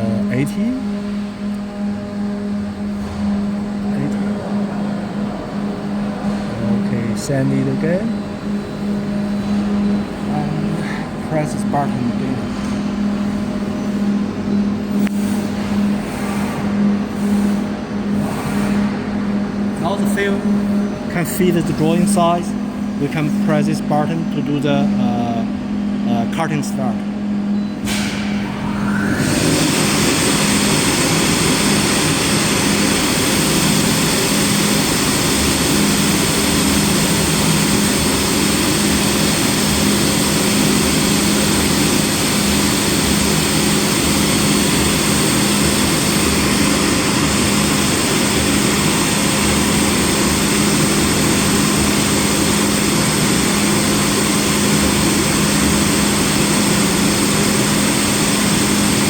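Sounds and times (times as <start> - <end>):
constant low hum: 0.0 - 59.0
cutting machine noise with whine: 0.0 - 59.0.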